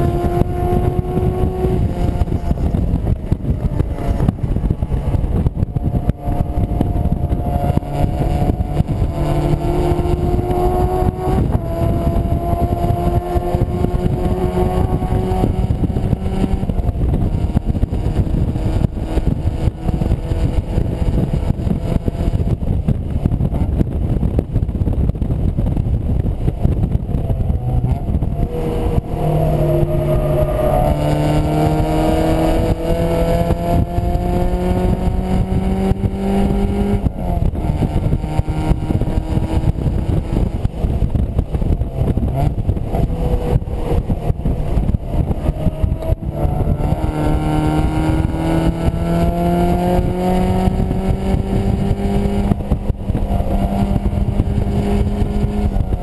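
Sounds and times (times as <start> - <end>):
car engine revving through gears: 0.0 - 23.6, 25.7 - 56.0
wind buffeting on microphone: 0.0 - 56.0.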